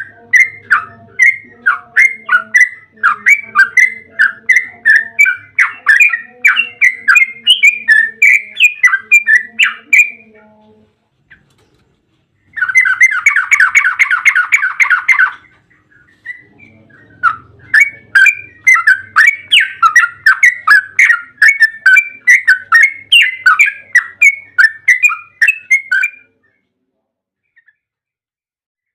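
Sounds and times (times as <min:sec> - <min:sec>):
bulbul singing: 0:00.0 - 0:26.6.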